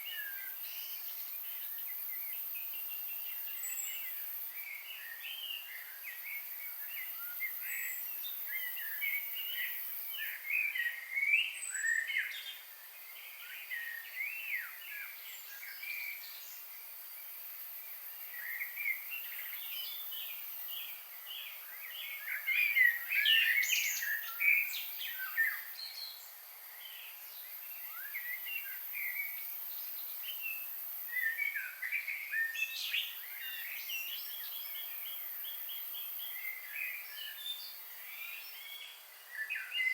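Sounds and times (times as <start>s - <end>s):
songbirds chirping and warbling: 0.0s - 39.9s
steady high hiss: 0.0s - 39.9s.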